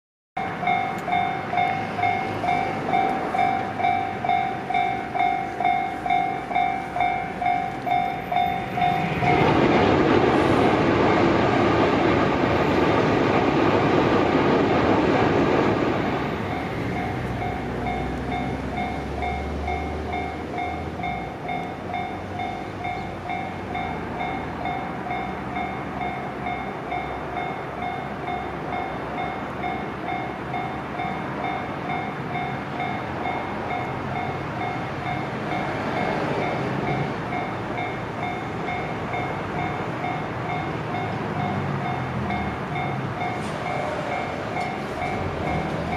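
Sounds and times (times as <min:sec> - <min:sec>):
crossing warning bell ringing: 0:00.4 - 0:45.9
train passing: 0:00.4 - 0:45.9.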